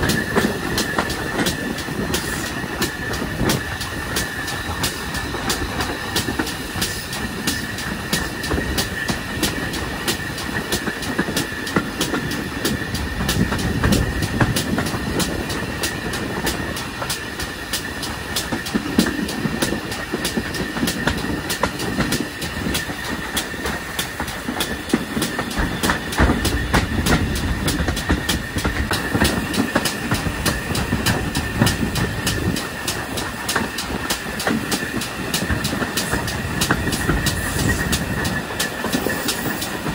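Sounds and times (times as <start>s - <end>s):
train rumbling along track: 0.0s - 39.9s
wheels clicking over rail joints: 0.0s - 39.9s.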